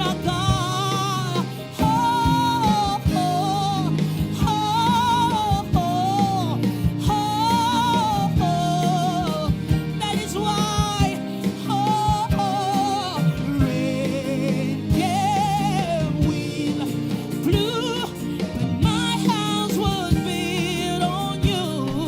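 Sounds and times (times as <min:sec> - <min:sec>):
band with bass and drums: 0:00.0 - 0:22.0
choir singing gospel: 0:00.0 - 0:22.0.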